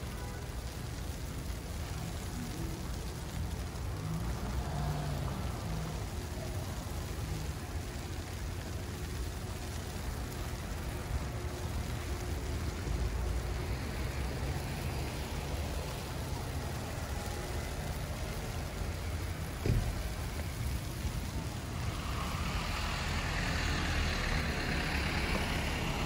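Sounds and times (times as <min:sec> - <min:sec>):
low traffic rumble: 0:00.0 - 0:26.0
steady hiss: 0:00.0 - 0:26.0.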